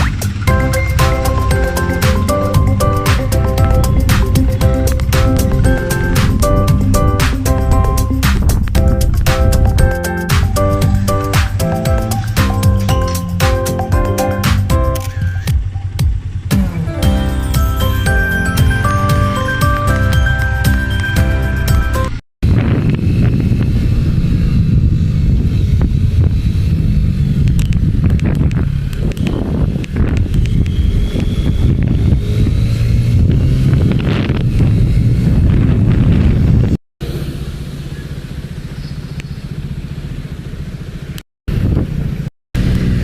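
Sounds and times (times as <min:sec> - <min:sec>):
motorcycle engine rumbling: 0:00.0 - 0:43.0.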